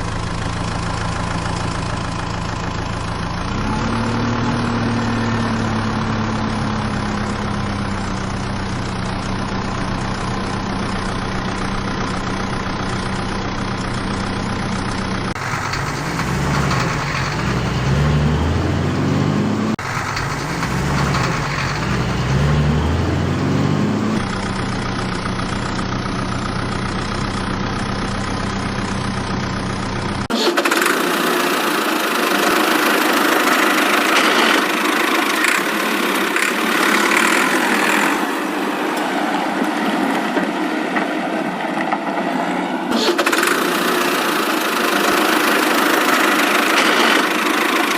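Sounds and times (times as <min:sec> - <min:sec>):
diesel engine revving: 0:00.0 - 0:47.9
machinery running: 0:00.0 - 0:47.9.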